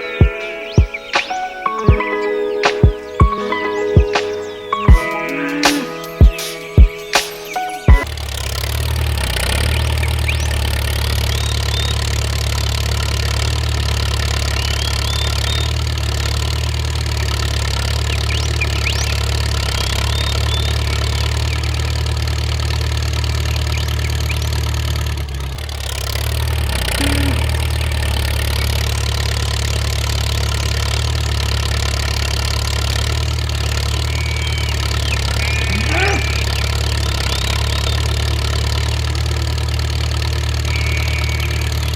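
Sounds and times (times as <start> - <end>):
engine idling: 2.9 - 41.9.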